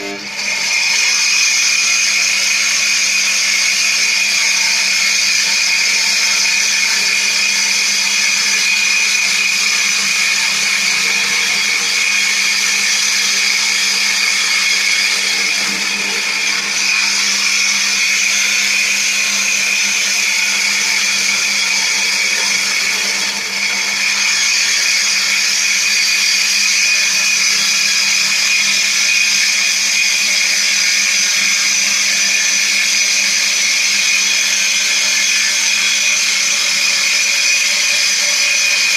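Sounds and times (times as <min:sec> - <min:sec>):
circular saw cutting wood: 0:00.0 - 0:38.9.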